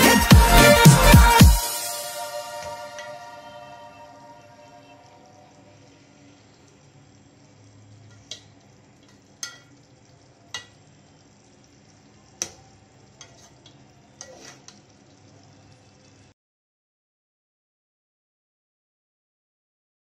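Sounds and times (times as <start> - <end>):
curry sizzling: 0.0 - 16.4.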